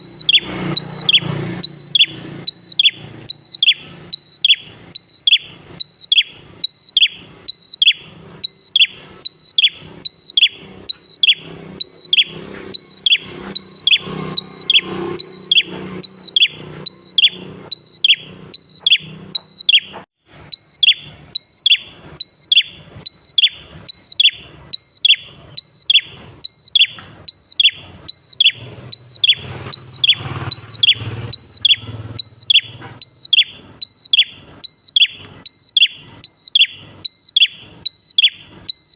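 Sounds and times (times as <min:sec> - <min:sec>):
bird singing repeated phrase: 0:00.0 - 0:38.9.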